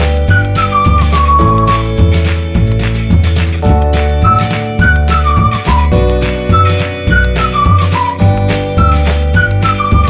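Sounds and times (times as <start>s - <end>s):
steady beat: 0.0s - 10.0s
sustained bass notes: 0.0s - 10.0s.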